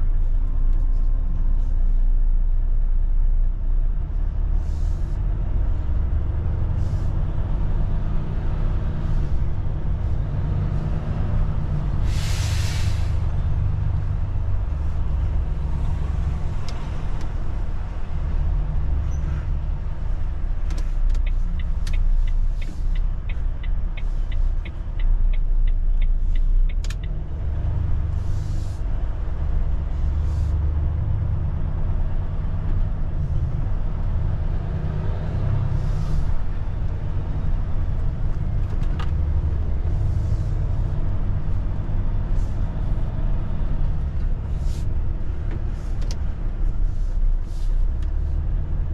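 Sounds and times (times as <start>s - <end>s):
diesel truck engine rumbling: 0.0s - 48.9s.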